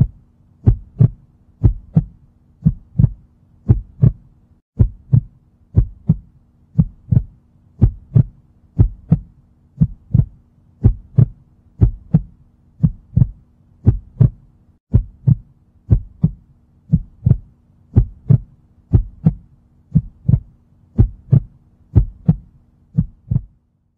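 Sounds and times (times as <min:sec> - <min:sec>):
heartbeat lub-dub: 0:00.0 - 0:23.6.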